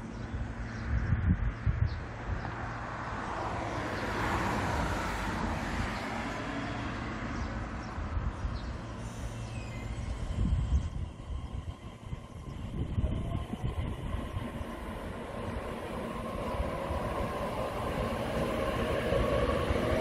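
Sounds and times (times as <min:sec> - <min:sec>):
train rumbling slowly: 0:00.0 - 0:20.0.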